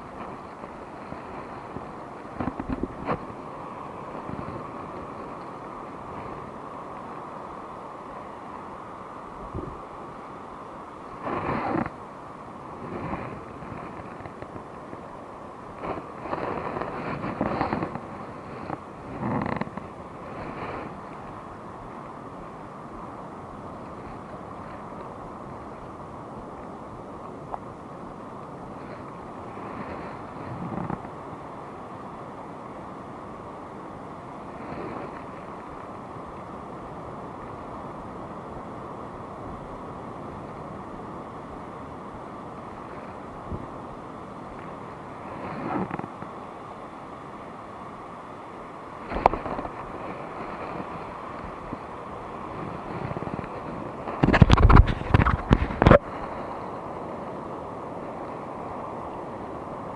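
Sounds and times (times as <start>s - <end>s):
shallow sea water: 0.0s - 59.9s
wind on microphone: 0.0s - 59.9s.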